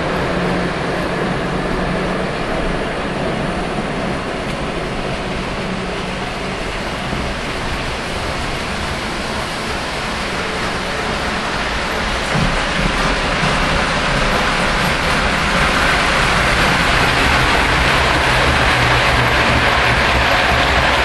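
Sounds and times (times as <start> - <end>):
model trains running on track: 0.0 - 21.0.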